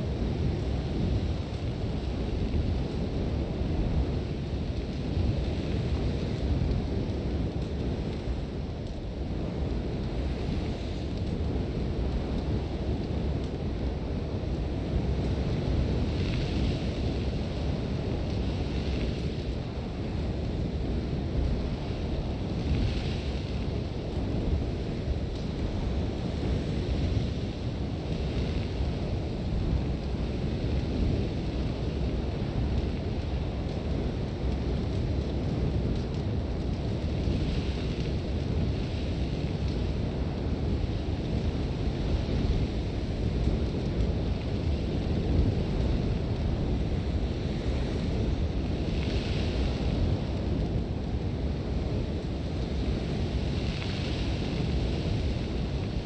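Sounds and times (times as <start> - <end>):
strong wind rumbling: 0.0 - 56.0.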